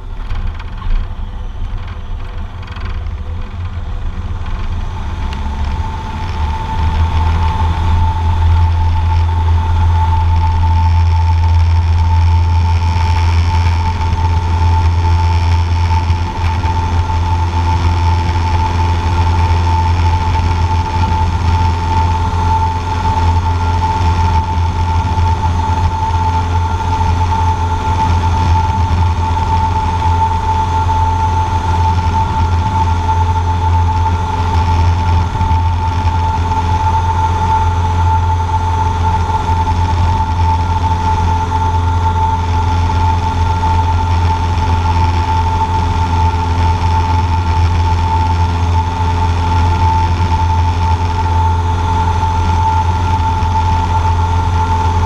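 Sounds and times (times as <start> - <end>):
airplane engine and propeller drone: 0.0 - 55.0
steady high whine: 0.0 - 55.0.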